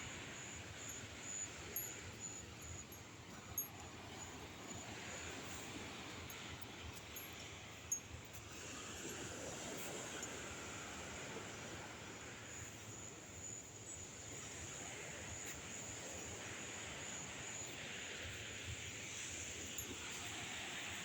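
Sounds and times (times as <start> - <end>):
insects trilling: 0.0 - 21.0
wind: 0.0 - 21.0.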